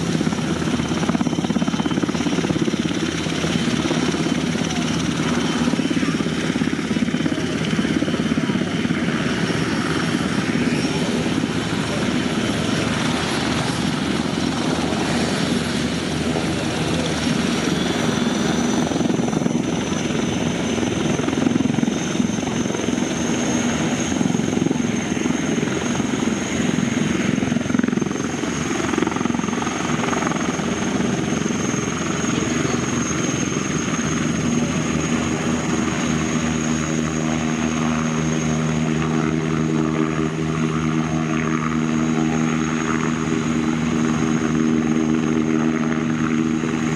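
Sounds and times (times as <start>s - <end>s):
propeller aircraft engines droning: 0.0s - 46.9s.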